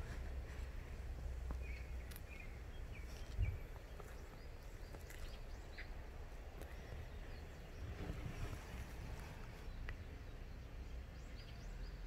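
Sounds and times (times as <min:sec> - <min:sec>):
steady low rumble: 0:00.0 - 0:11.7
bird chirps: 0:01.5 - 0:12.0.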